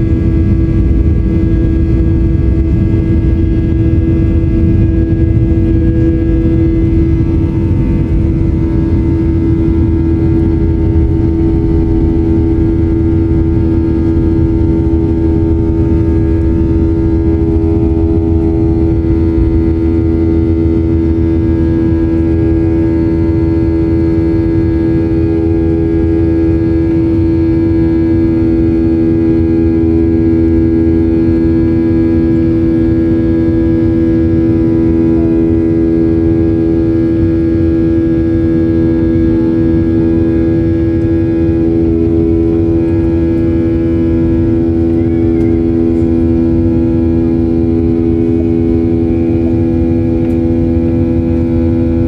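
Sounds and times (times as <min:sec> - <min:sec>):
jet engine drone in cabin: 0:00.0 - 0:52.0
lower engine tone: 0:00.0 - 0:52.0.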